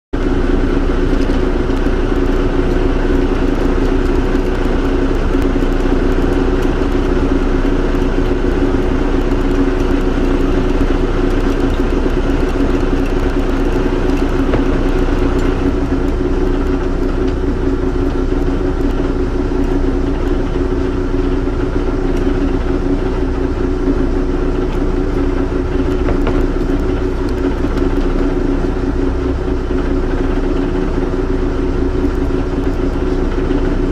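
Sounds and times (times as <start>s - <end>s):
boat engine droning: 0.2s - 33.9s.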